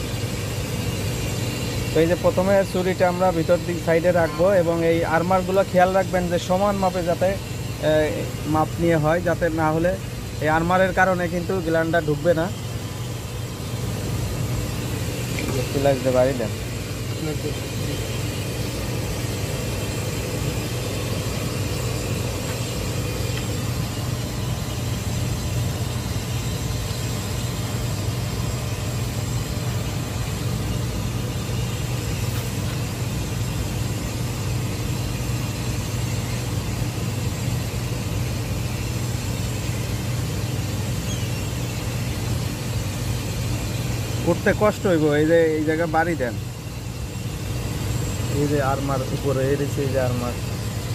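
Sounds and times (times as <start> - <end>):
machinery humming: 0.0 - 50.9.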